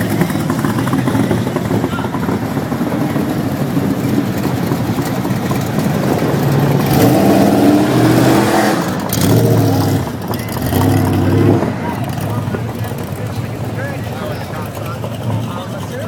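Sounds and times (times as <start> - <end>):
car engine revving: 0.0 - 16.0
car engines running: 0.0 - 16.0.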